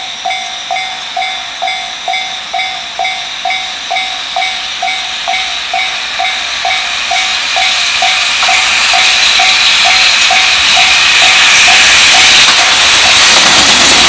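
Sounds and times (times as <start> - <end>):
train hissing: 0.0 - 14.0.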